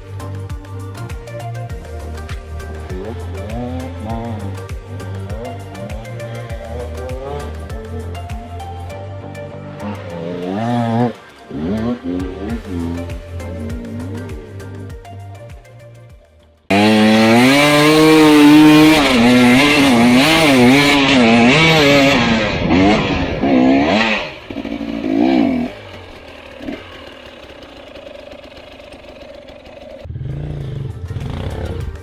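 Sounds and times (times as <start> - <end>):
motorcycle engine revving: 0.0 - 16.0, 16.6 - 32.0.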